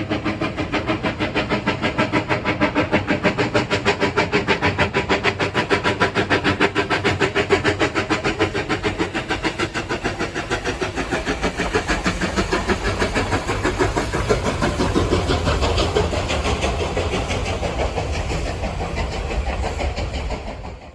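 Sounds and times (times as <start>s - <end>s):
steam locomotive exhaust chuffing: 0.0s - 20.9s
train running by rumble: 0.0s - 20.9s.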